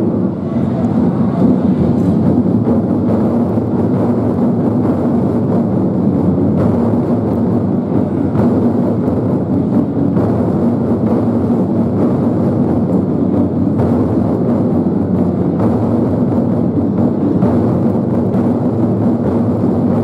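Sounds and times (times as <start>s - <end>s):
barrel drums rolling: 0.0s - 20.0s.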